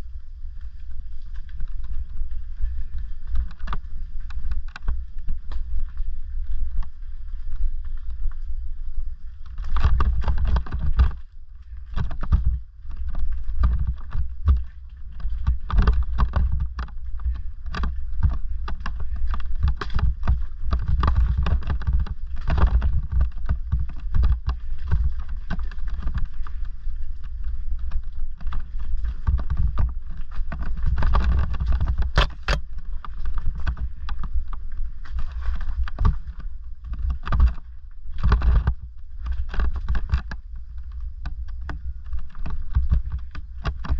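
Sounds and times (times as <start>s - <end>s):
bike rattling over stones: 0.0s - 43.9s.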